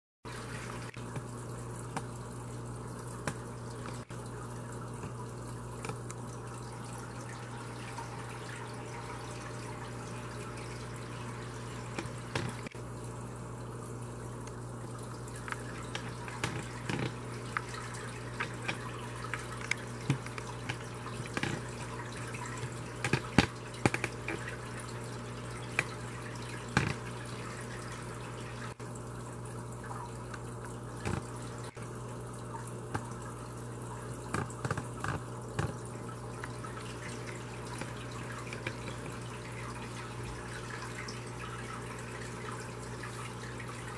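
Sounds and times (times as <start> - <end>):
air bubbles popping in water: 0.3 - 43.9.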